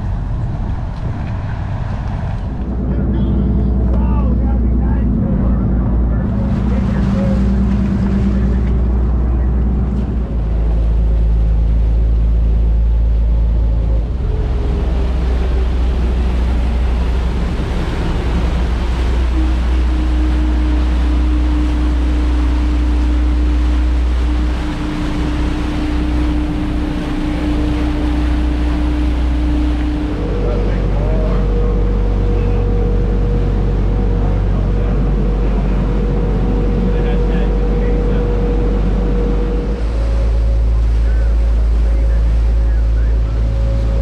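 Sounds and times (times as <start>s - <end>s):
boat engines rumbling: 0.0s - 44.0s
water rushing along hull: 0.0s - 44.0s
wind noise: 0.0s - 44.0s.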